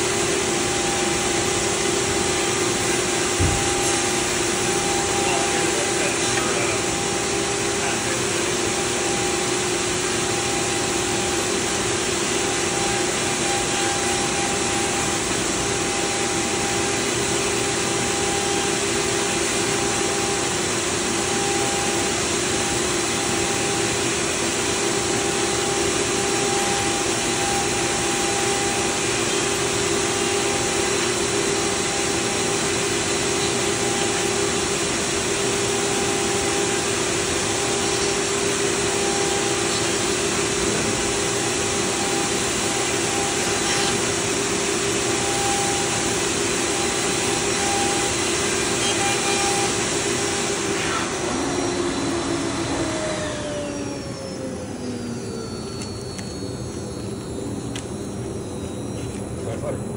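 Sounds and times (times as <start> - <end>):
flatbed cutter rushing vacuum hum: 0.0 - 59.9.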